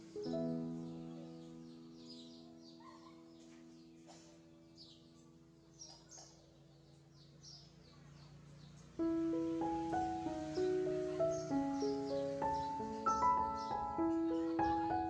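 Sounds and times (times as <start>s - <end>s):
baby bird chirping: 0.9s - 8.7s, 9.3s - 15.0s.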